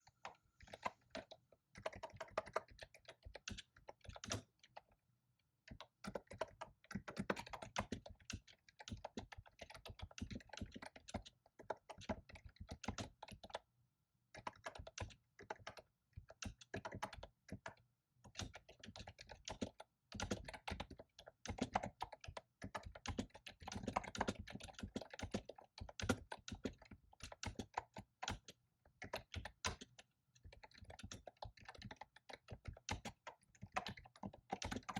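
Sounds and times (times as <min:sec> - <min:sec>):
typing on computer keyboard: 0:00.1 - 0:05.0, 0:05.6 - 0:13.7, 0:14.3 - 0:34.9.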